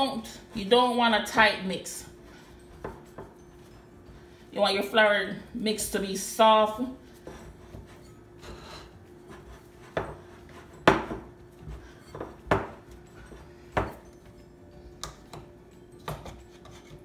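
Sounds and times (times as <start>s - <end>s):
faint steady hum: 0.0s - 16.5s.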